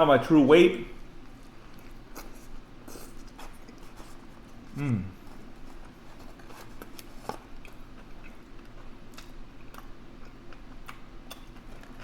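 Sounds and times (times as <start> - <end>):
person chewing food: 1.3 - 12.0.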